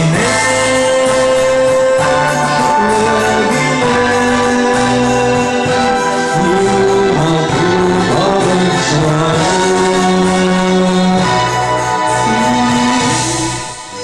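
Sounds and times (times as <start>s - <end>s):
instrumental accompaniment: 0.0s - 14.0s
person singing: 0.0s - 14.0s.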